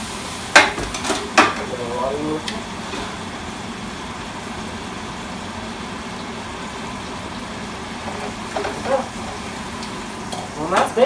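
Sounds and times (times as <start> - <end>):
range hood fan running: 0.0 - 11.0
vegetables sizzling in a pan: 0.0 - 11.0.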